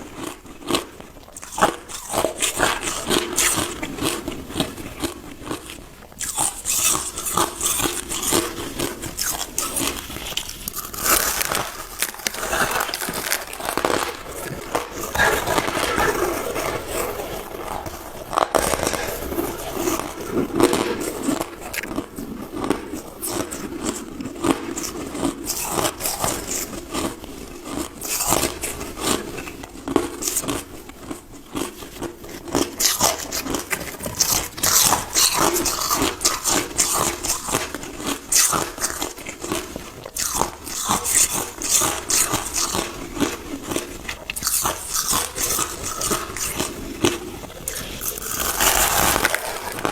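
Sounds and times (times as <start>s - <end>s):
chewing crushed ice: 0.0s - 49.9s.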